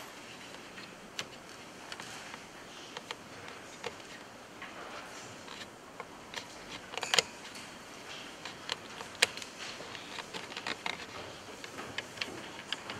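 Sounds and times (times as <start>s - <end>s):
faint room noise: 0.0s - 12.9s.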